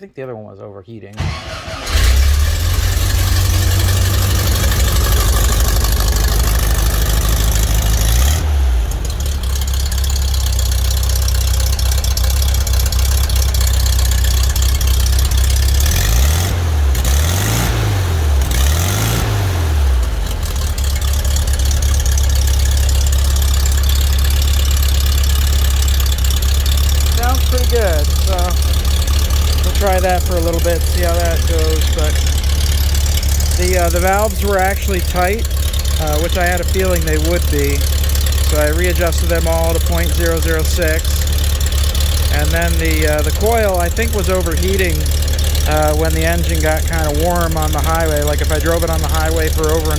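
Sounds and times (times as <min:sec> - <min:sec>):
engine throttle blips: 0:01.1 - 0:49.9
car engine idling: 0:01.2 - 0:49.9.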